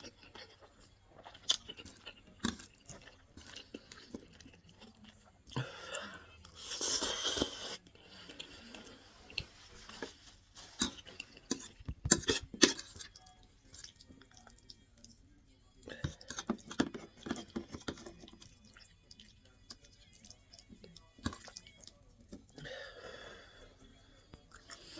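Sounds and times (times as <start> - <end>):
person chewing with wet mouth noises: 0.0 - 22.7.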